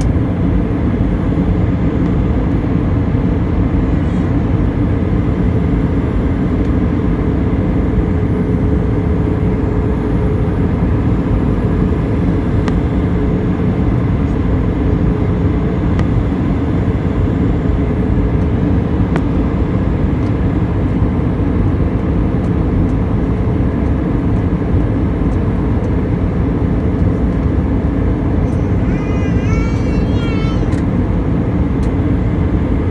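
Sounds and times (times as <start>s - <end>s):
aircraft cabin noise: 0.0s - 32.9s
faint held hum: 0.0s - 32.9s.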